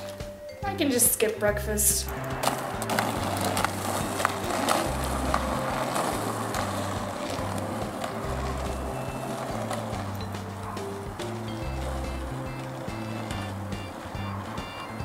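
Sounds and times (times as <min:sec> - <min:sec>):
background music with bass line: 0:00.0 - 0:15.0
roller skate wheels on asphalt: 0:00.0 - 0:15.0.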